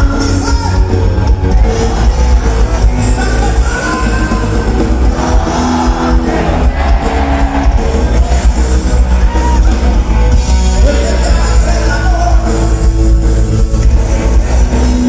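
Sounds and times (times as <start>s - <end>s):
live band music with heavy bass: 0.0s - 15.0s.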